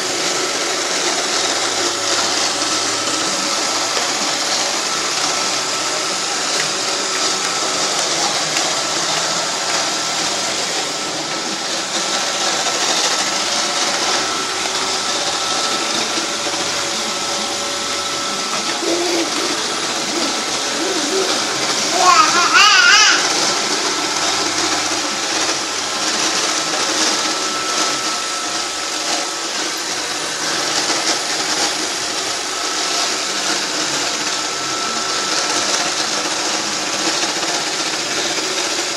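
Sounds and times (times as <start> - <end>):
robot vacuum running: 0.0 - 38.9.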